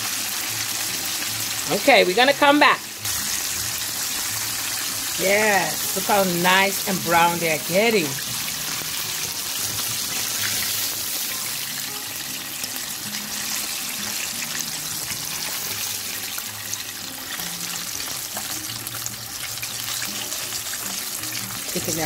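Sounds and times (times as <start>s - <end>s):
oil sizzling deep-frying: 0.0s - 22.0s.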